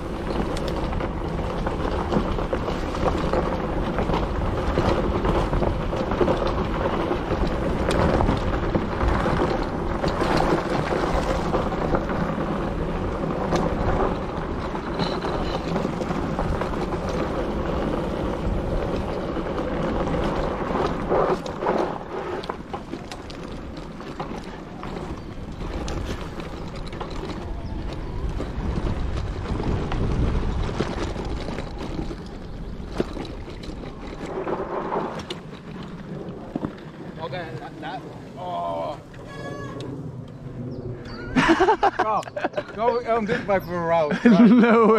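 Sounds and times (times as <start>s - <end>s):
bike knocks and rattles: 0.0s - 38.0s
tyres rolling on dirt trail: 0.0s - 44.9s
wind rushing over microphone: 0.0s - 44.9s.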